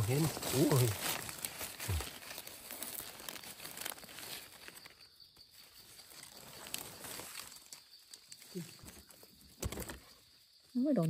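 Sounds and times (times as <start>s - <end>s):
dry leaves rustling and crinkling: 0.0s - 10.4s.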